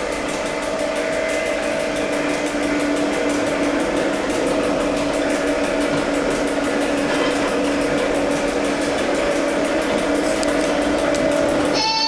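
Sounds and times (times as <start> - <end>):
railcar motor hum: 0.0 - 12.0
wheels rumbling on rail: 0.0 - 12.0.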